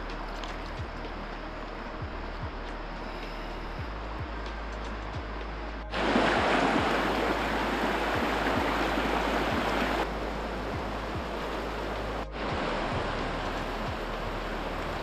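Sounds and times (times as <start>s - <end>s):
background music beat: 0.0s - 15.0s
river water rushing over rocks: 0.0s - 15.0s.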